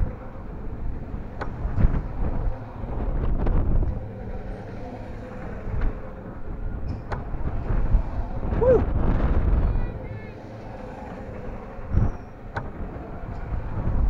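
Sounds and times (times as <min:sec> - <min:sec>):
low rumble of moving ride: 0:00.0 - 0:14.0
wind buffeting microphone: 0:00.0 - 0:14.0.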